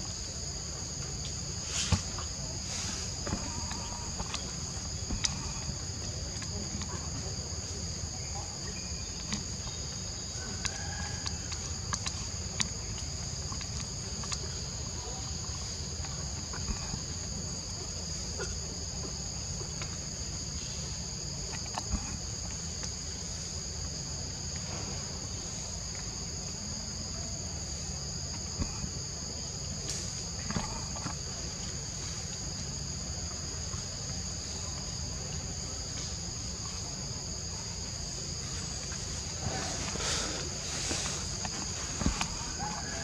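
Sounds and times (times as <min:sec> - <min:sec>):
forest insects droning: 0:00.0 - 0:43.0.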